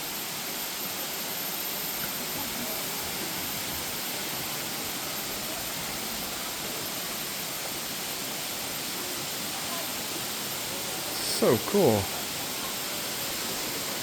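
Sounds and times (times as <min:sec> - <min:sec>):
water rushing: 0:00.3 - 0:14.0.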